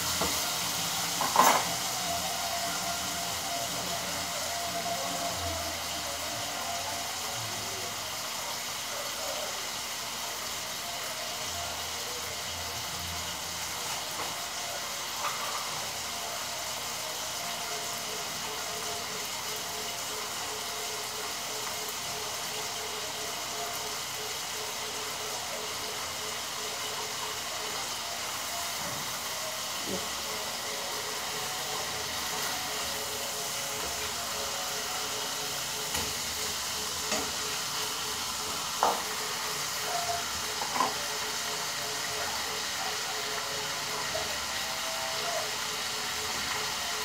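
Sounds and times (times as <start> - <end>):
meat sizzling in a skillet: 0.0 - 47.0.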